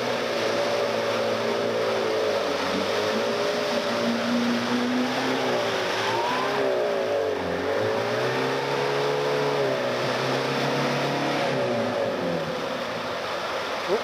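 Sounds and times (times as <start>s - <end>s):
engine revving: 0.0s - 13.5s
mud and water splashing: 0.0s - 14.0s.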